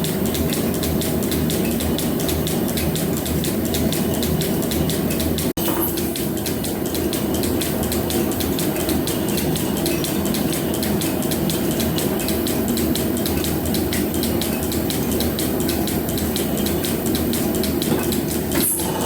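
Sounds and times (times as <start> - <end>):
rapid regular ticking: 0.0 - 18.6.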